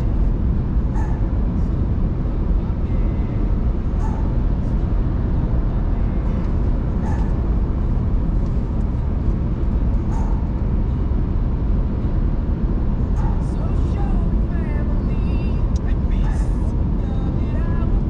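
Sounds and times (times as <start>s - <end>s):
car driving at highway speed: 0.0s - 18.0s.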